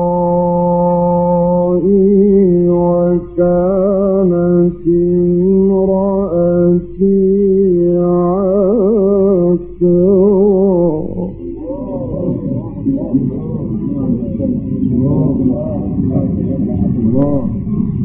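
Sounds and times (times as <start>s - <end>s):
man chanting melodically: 0.0s - 18.0s
steady low hum: 0.0s - 18.0s.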